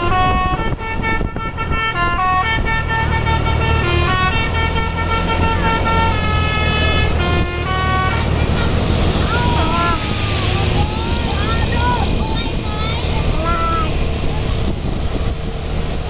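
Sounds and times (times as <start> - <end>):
musical horn melody: 0.0 - 14.1
bus engine running: 0.0 - 16.0.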